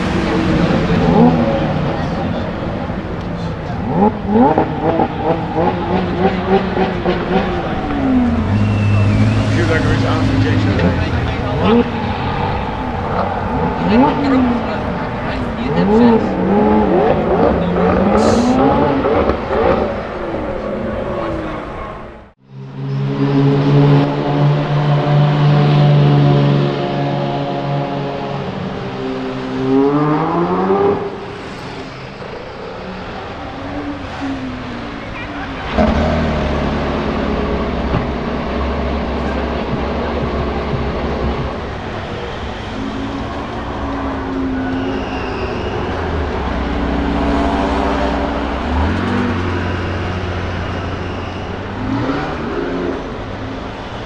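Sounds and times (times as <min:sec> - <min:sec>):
supercar engine revving: 0:00.0 - 0:31.5, 0:32.1 - 0:54.0.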